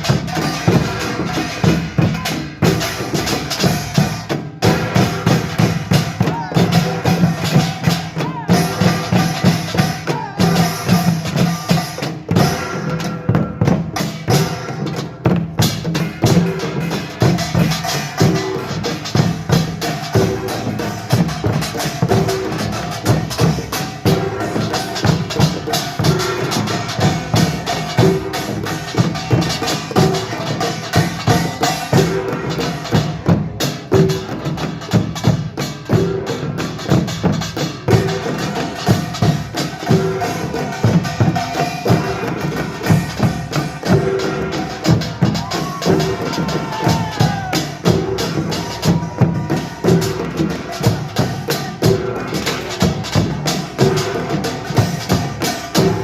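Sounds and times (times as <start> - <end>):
drums beating: 0.0 - 56.0.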